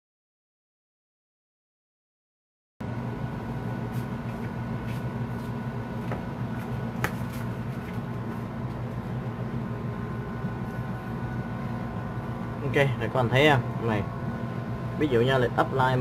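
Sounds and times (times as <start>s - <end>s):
low room hum: 2.8s - 16.0s.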